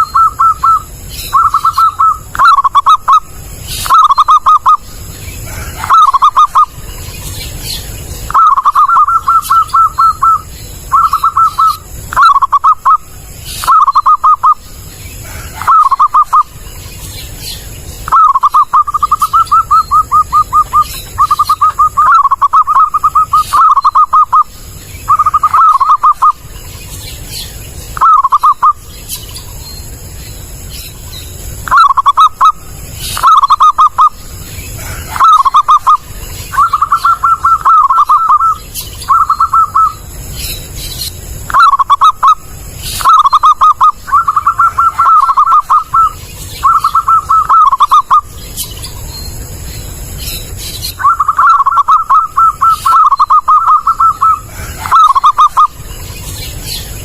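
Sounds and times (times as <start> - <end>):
dove cooing: 0.0 - 16.6, 18.0 - 26.6, 28.0 - 28.8, 31.6 - 40.7, 41.4 - 48.3, 50.9 - 55.9.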